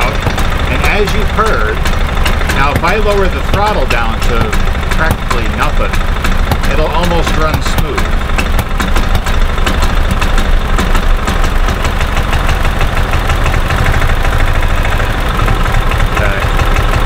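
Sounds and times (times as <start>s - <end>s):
engine idling with popping misfires: 0.0s - 17.0s.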